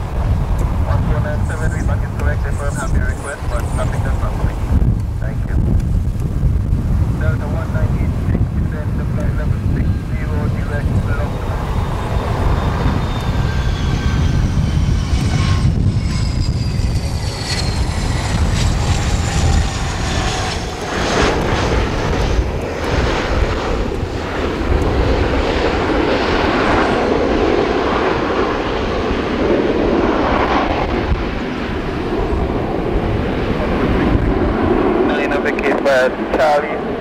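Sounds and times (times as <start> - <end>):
jet turbine whine: 0.0 - 37.0
low rumble: 0.0 - 37.0
rushing jet noise: 0.0 - 37.0.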